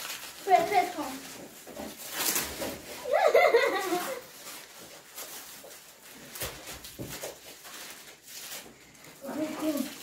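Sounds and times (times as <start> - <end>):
rustling and shuffling: 0.0 - 10.0.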